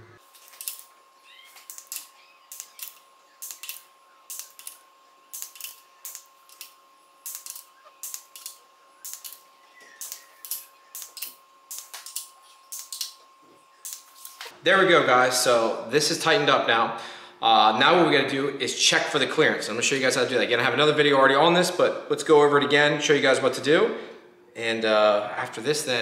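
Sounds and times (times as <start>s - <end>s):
faint high hum: 0.0s - 26.0s.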